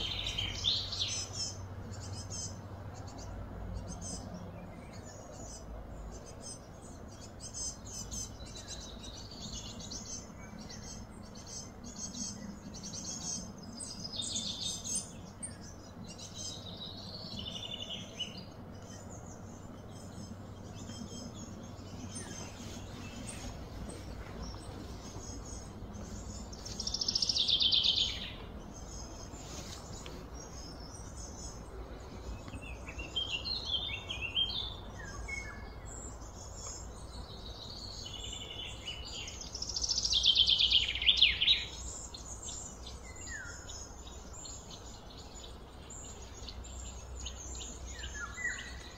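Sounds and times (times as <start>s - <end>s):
songbird trilling: 0.0s - 4.3s, 4.9s - 48.9s
bird chirps: 0.0s - 48.9s
faint steady background noise: 0.0s - 48.9s.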